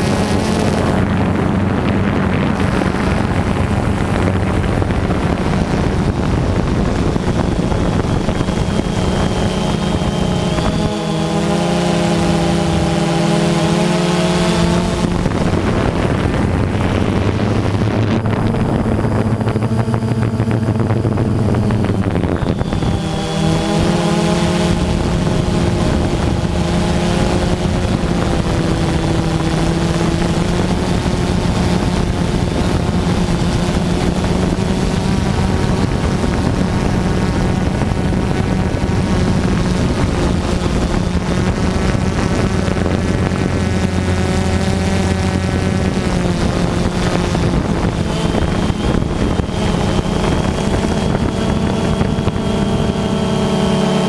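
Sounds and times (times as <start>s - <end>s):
drone motors buzzing whine: 0.0s - 54.0s.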